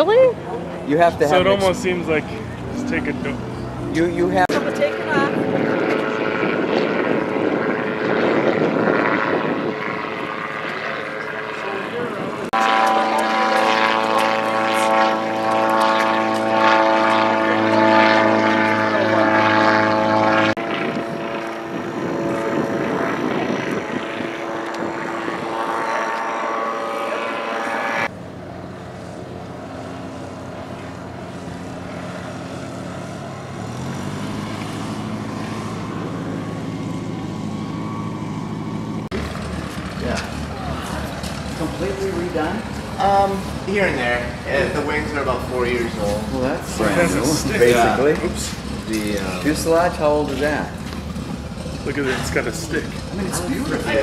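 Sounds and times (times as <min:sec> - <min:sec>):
propeller engine droning overhead: 0:00.0 - 0:54.0
softer propeller engine drone: 0:00.0 - 0:54.0.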